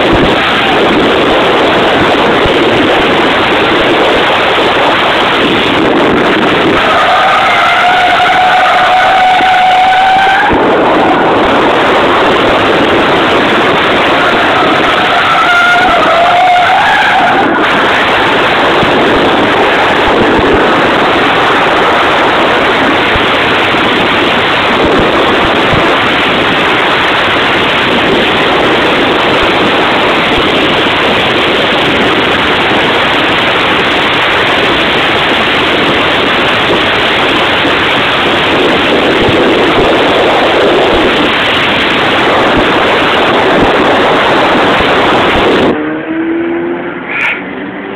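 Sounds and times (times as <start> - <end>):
engine and tyre noise in car: 0.0 - 47.9.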